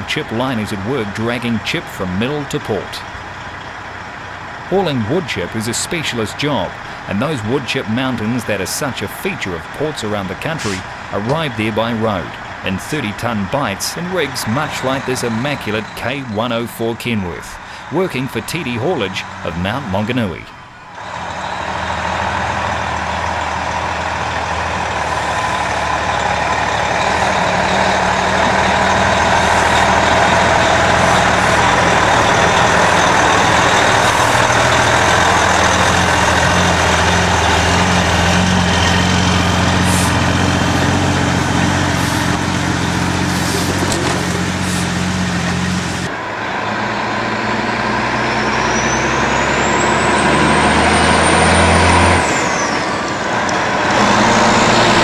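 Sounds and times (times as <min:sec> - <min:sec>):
diesel truck engine drone: 0:00.0 - 0:55.0.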